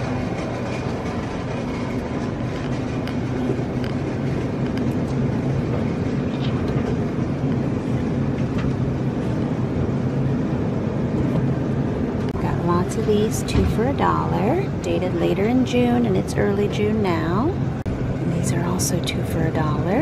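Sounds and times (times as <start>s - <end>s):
grocery store background rumble: 0.0s - 20.0s.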